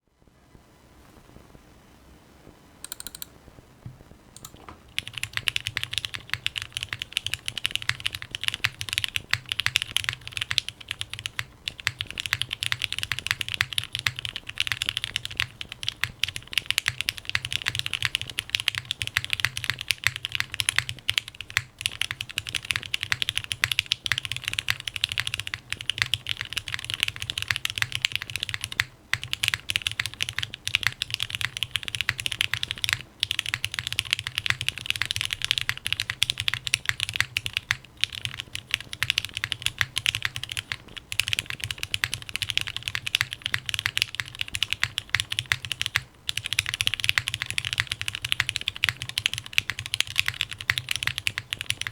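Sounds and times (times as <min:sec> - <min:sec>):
fast typing on mechanical keyboard: 0:02.8 - 0:03.3, 0:04.4 - 0:51.9.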